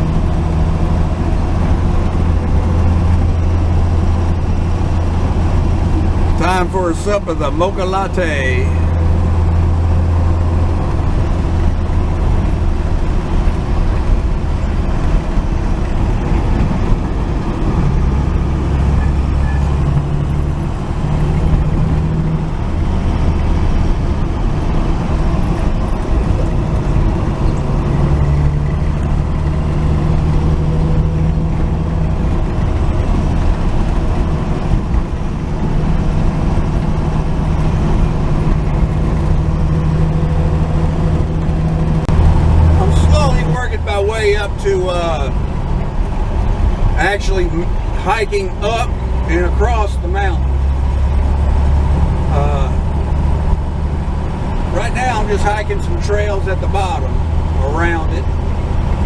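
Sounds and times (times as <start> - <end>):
truck engine cruising: 0.0 - 59.0.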